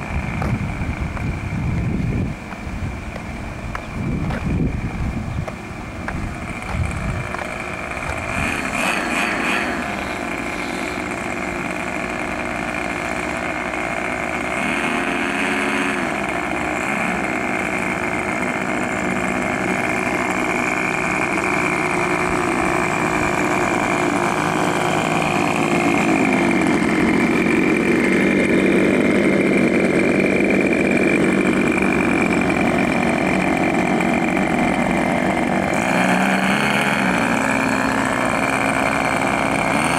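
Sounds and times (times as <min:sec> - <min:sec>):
model aircraft engines running: 0:00.0 - 0:39.9.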